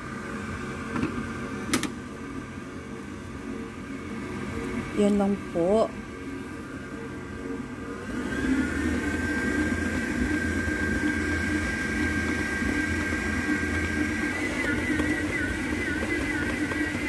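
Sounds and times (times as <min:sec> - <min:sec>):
electric mixer motor whining: 0:02.8 - 0:17.0.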